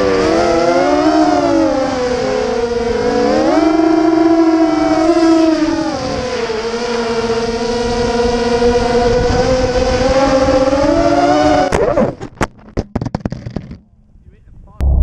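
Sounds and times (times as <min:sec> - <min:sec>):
quadcopter motors whining: 0:00.0 - 0:12.2.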